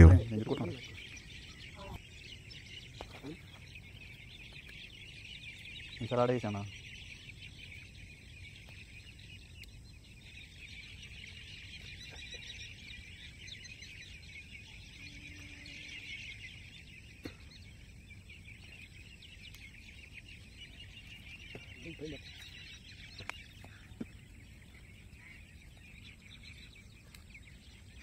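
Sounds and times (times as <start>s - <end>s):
high-pitched chirping chorus: 0.0s - 28.0s.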